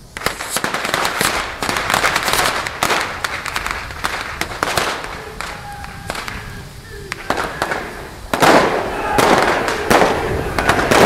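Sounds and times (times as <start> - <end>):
firecracker cracks and pops: 0.0 - 11.0
hissing flares: 0.0 - 11.0.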